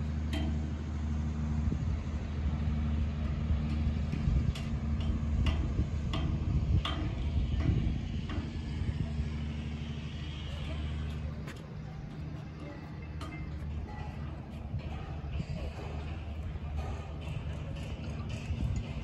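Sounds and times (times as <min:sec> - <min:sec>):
crane engine humming: 0:00.0 - 0:19.0.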